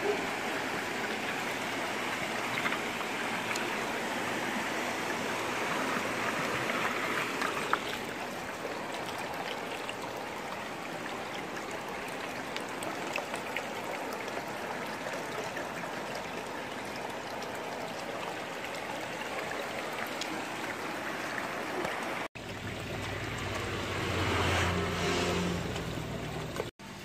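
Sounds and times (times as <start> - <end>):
aquarium water bubbling: 0.0 - 27.0
running trickling water: 0.0 - 27.0.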